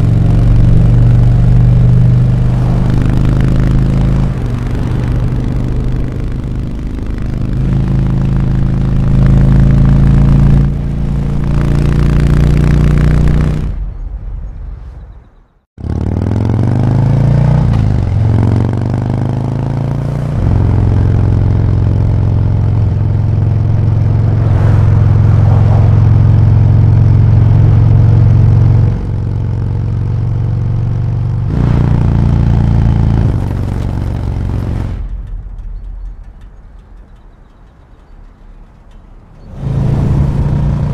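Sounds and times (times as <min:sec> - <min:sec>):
motorcycle engine revving: 0:00.0 - 0:13.8, 0:15.8 - 0:35.7, 0:39.4 - 0:40.9.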